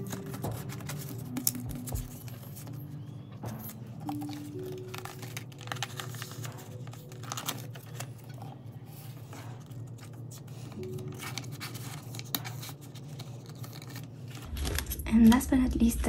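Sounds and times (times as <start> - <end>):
plastic sleeves rustling: 0.0 - 15.4
soft background music: 0.0 - 16.0.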